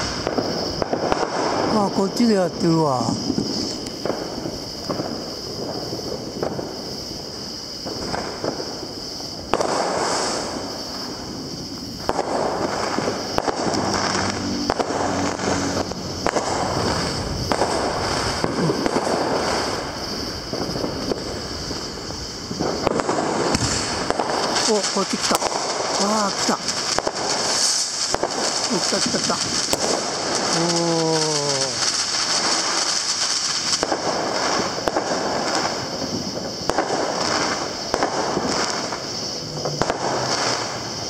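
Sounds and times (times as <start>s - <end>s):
fireworks bangs and pops: 0.0s - 41.0s
fireworks crackling: 0.0s - 41.0s.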